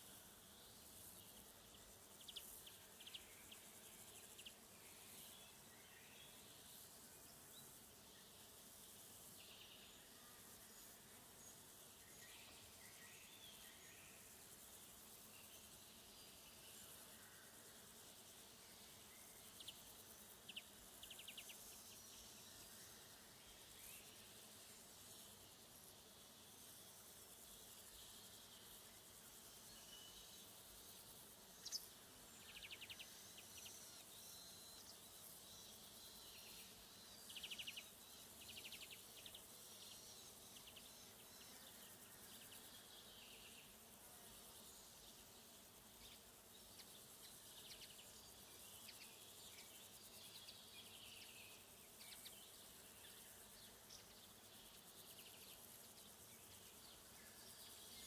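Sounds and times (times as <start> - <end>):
high insect hum: 0.0 - 58.0.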